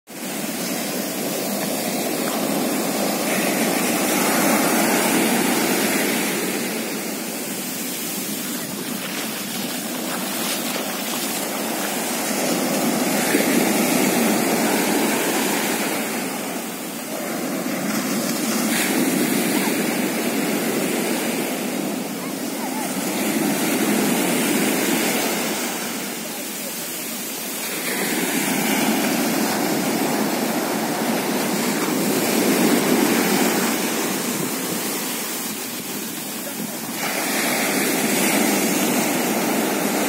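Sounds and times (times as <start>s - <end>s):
sea surf breaking on beach: 0.1s - 40.0s.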